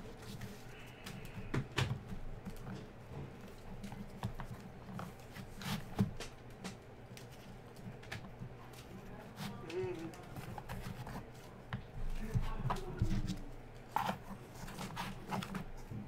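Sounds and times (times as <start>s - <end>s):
cards tapping and rustling: 0.1s - 16.0s.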